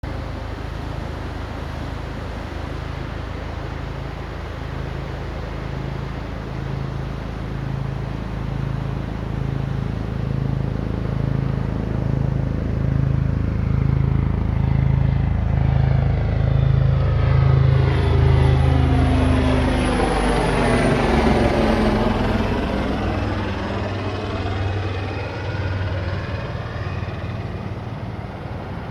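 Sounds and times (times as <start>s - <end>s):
helicopter flying past: 0.0s - 28.9s.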